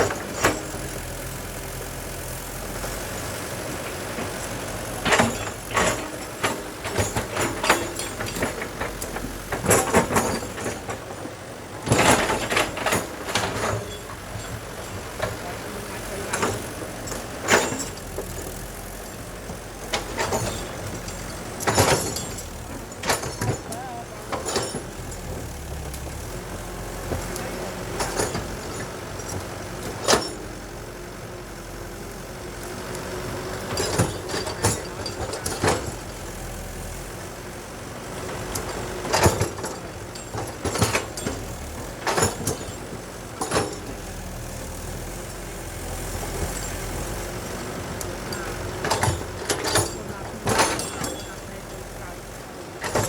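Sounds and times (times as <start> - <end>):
diesel machinery running: 0.0 - 53.0.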